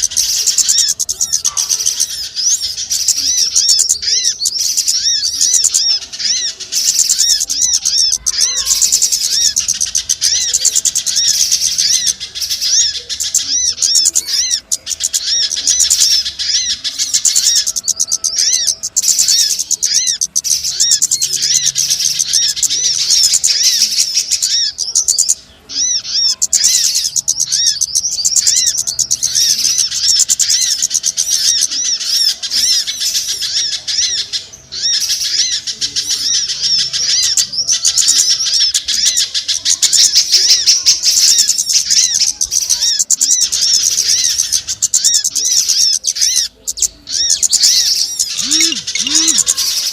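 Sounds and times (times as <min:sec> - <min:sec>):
small birds chirping and twittering: 0:00.0 - 0:49.9.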